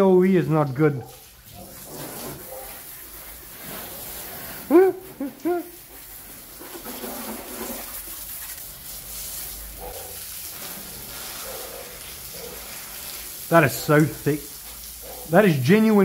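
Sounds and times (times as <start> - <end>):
hose water spraying: 0.0 - 16.0.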